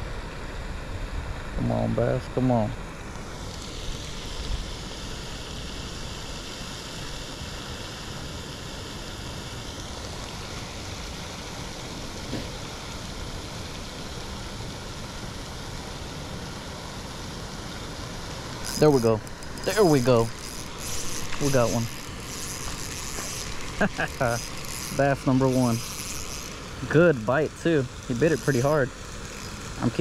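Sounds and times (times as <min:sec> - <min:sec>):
fountain spray splashing: 0:00.0 - 0:30.0.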